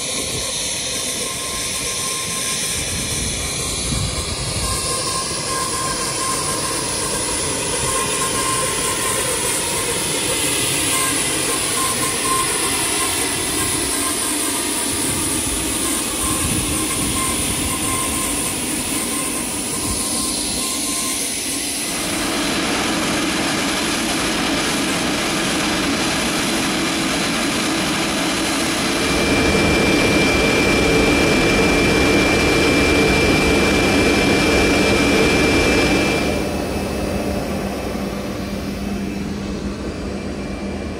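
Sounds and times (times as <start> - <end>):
aircraft turbine whine: 0.0 - 40.9.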